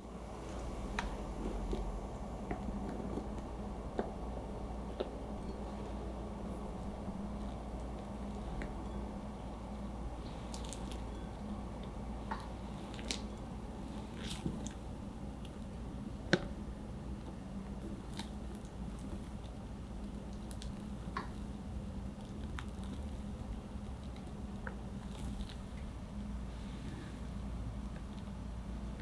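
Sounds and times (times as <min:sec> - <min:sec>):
batter squishing: 0:00.0 - 0:29.0.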